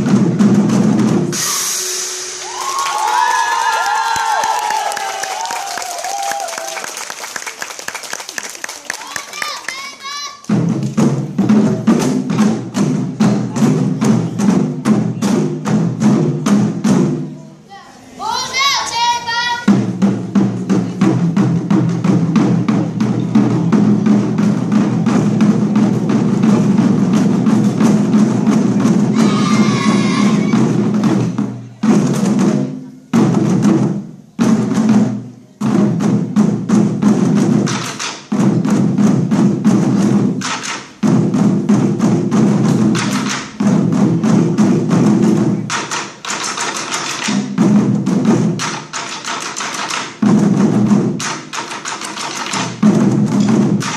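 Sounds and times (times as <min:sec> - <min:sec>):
fast loud drumming: 0:00.0 - 0:06.7, 0:09.0 - 0:17.4, 0:19.6 - 0:53.9.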